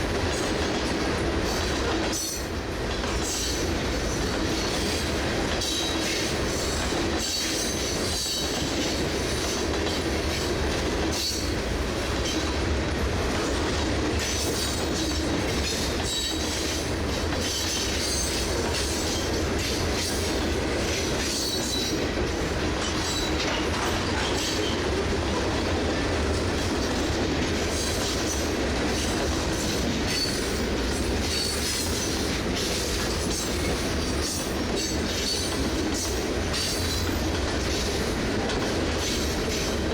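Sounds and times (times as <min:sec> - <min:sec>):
steel wheels rumbling on rails: 0:00.0 - 0:39.9
wheels clicking over rail joints: 0:00.1 - 0:39.9.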